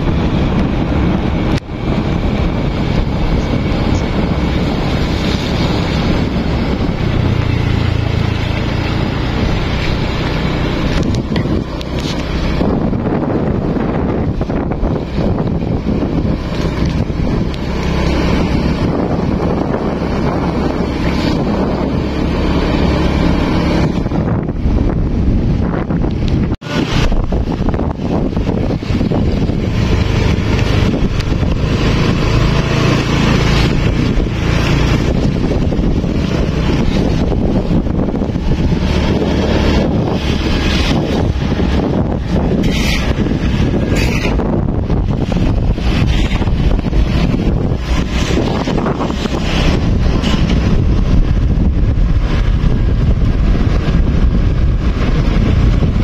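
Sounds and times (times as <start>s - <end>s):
engine running: 0.0s - 56.0s
tyre noise on dirt road: 0.0s - 56.0s
wind buffeting microphone: 0.0s - 56.0s.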